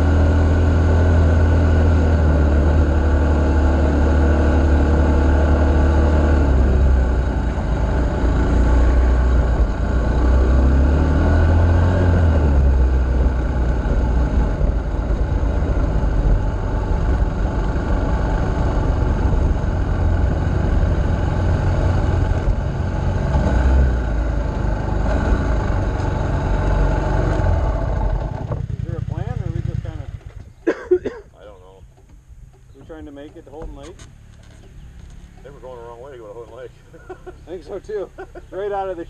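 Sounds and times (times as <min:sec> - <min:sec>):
off-road vehicle engine: 0:00.0 - 0:39.0.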